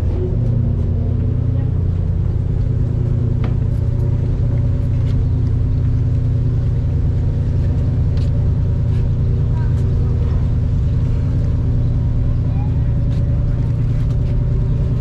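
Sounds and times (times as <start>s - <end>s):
constant hum: 0.0s - 15.0s
ferry engine low rumble: 0.0s - 15.0s.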